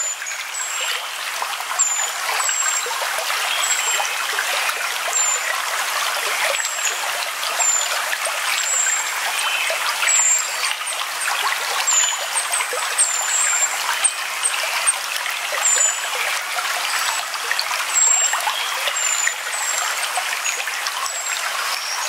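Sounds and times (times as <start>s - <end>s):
stream babbling over stones: 0.0s - 22.0s.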